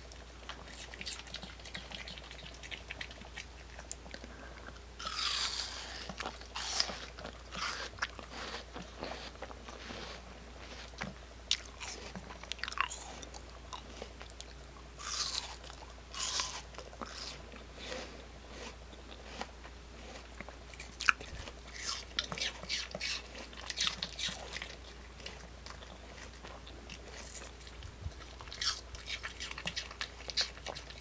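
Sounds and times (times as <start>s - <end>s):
dog crunching apple: 0.0s - 31.0s.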